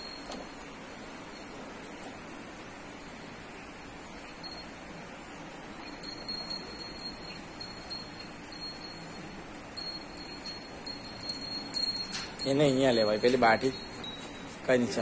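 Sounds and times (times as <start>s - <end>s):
cow bell tinkling: 0.0s - 1.8s, 2.8s - 14.7s.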